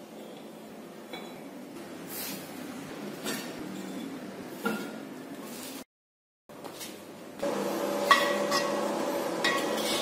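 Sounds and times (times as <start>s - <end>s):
workshop hiss and hum: 0.0s - 5.9s, 6.5s - 10.0s.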